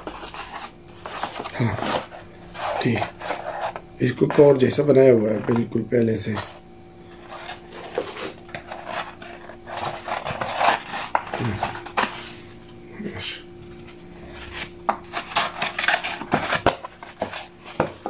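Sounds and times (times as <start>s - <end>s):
pulp packaging scraping and knocking: 0.0s - 12.4s, 13.8s - 18.0s
faint steady hum: 0.0s - 18.0s.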